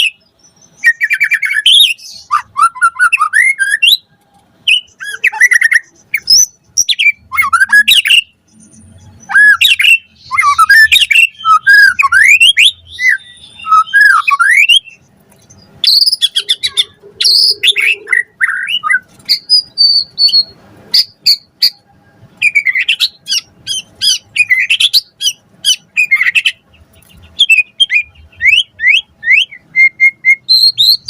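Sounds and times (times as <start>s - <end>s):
bird singing whistles and chatter: 0.0s - 31.0s.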